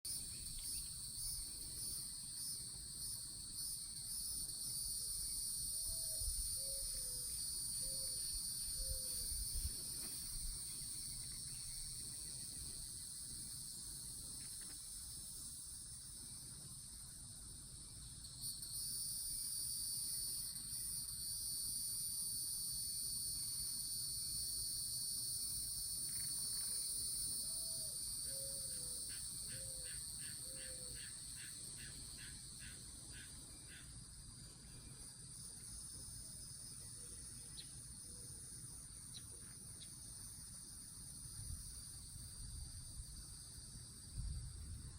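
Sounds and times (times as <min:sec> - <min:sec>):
crickets trilling: 0:00.1 - 0:44.9.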